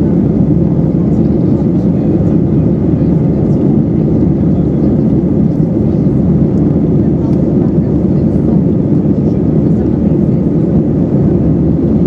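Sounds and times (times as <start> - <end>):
airplane cabin engine noise: 0.0 - 12.0.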